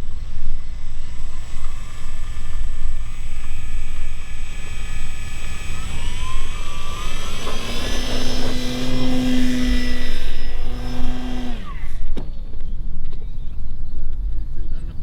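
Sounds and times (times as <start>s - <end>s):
electric motor and propeller whine: 0.0s - 14.4s.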